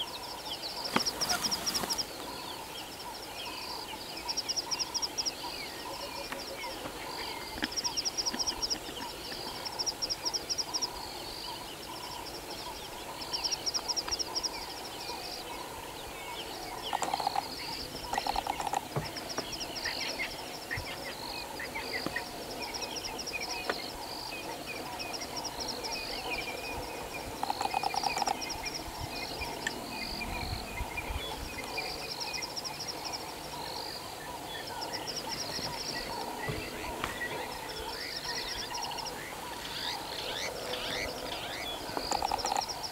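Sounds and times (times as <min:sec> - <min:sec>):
bird calls: 0:00.0 - 0:42.9.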